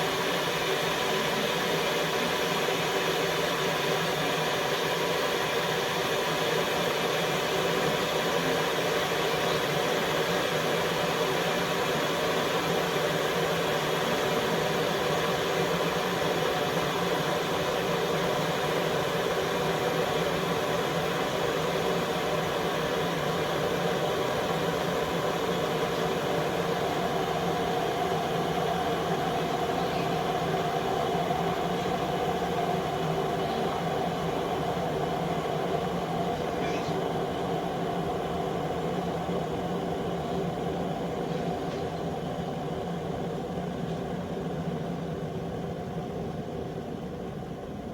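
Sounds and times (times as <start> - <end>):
electric kettle heating water: 0.0 - 47.9.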